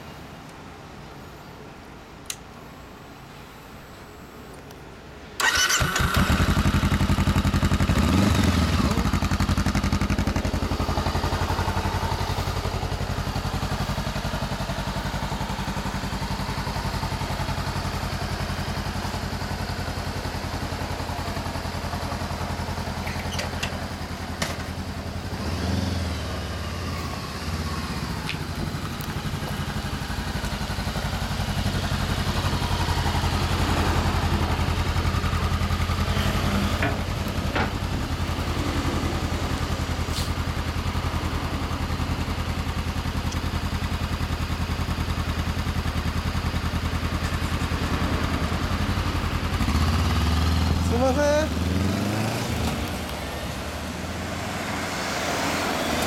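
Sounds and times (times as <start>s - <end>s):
motorcycle engine idling: 5.4s - 51.6s.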